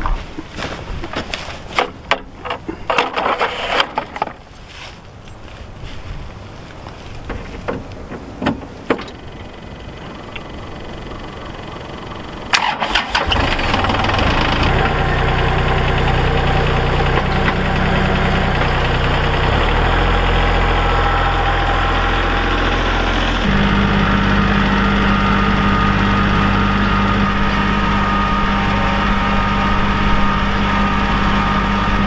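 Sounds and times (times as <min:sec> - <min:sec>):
tractor engine starting and idling: 0:00.5 - 0:04.6, 0:07.1 - 0:32.0.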